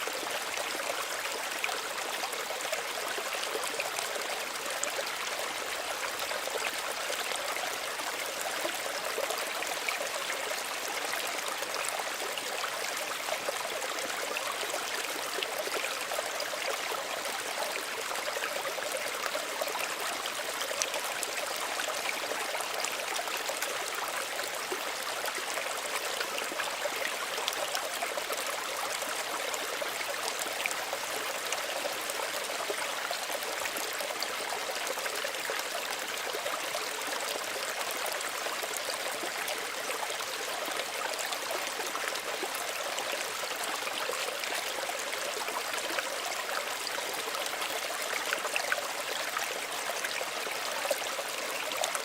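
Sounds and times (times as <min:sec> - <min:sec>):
stream babbling over stones: 0:00.0 - 0:52.0.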